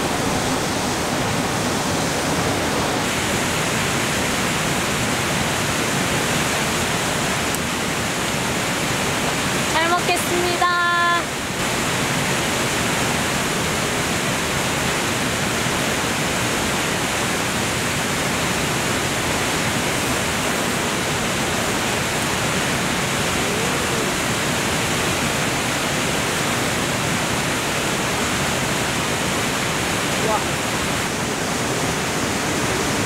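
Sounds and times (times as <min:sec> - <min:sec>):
stream flowing: 0:00.0 - 0:33.0.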